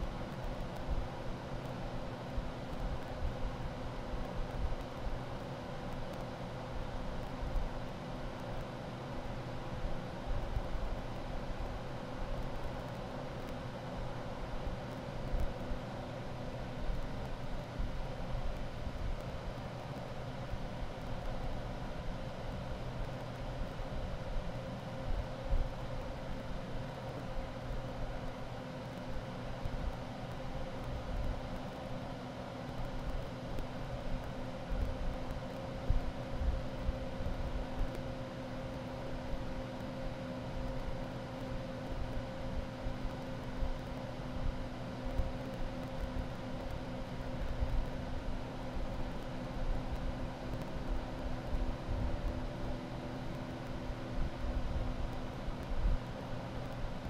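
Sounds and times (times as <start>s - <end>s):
air conditioning unit running: 0.0s - 57.0s
electrical hum: 0.0s - 57.0s.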